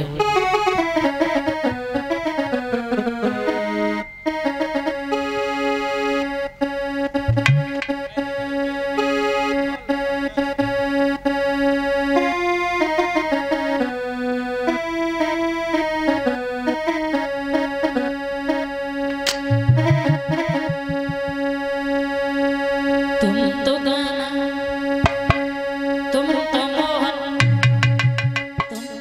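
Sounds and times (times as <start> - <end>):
keyboard melody with held notes: 0.0 - 29.0.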